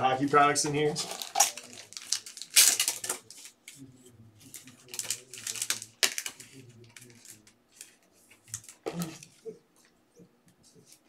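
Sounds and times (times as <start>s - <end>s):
rustling handling noises: 0.2s - 11.0s
crinkling: 0.4s - 10.0s.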